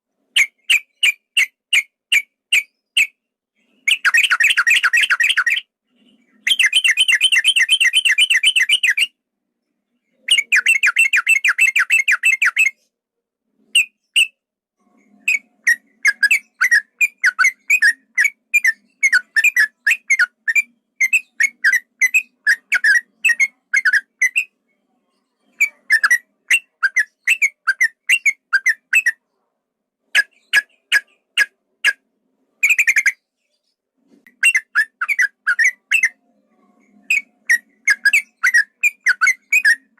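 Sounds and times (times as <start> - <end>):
bird trills and whistled chirps: 0.4 - 9.2, 10.1 - 12.8, 13.7 - 14.4, 15.0 - 29.3, 30.2 - 32.0, 32.6 - 36.2, 36.8 - 39.9.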